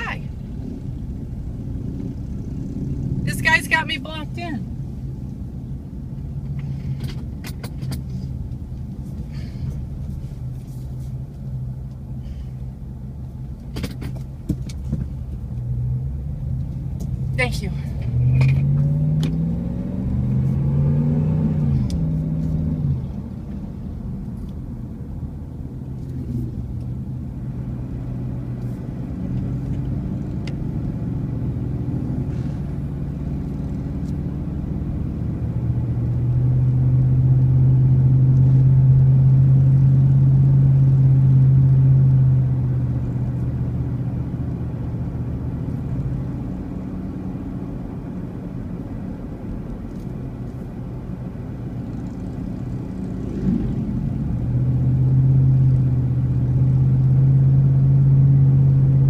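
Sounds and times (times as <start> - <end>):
vehicle engine accelerating: 0.0 - 59.0.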